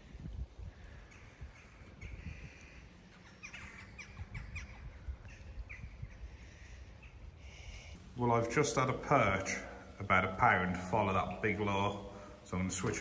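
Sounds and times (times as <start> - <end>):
birds calling and chirping: 0.1 - 13.0.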